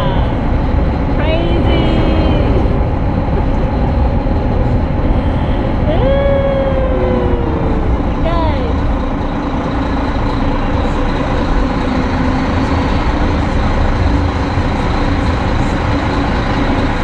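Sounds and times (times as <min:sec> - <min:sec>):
boat engines rumbling: 0:00.0 - 0:17.0.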